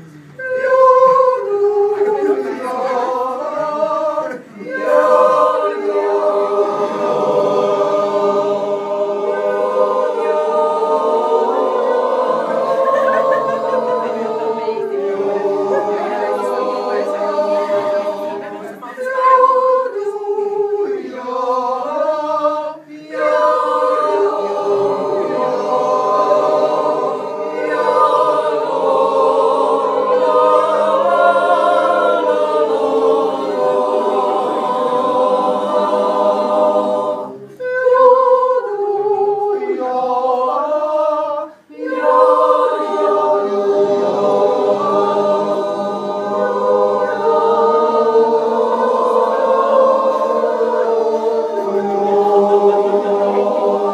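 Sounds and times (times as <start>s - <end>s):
group yodelling a cappella: 0.0s - 53.9s.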